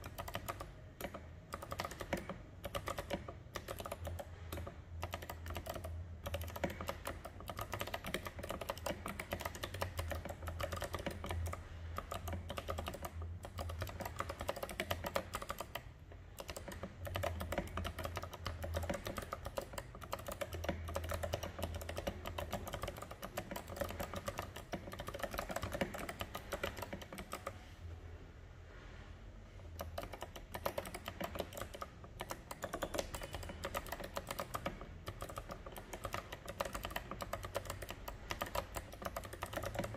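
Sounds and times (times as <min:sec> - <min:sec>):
fast typing on mechanical keyboard: 0:00.0 - 0:27.7, 0:29.7 - 0:39.9.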